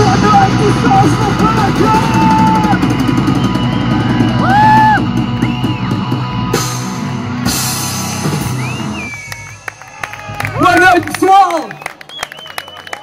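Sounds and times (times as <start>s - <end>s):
heavy metal band playing: 0.0s - 11.4s.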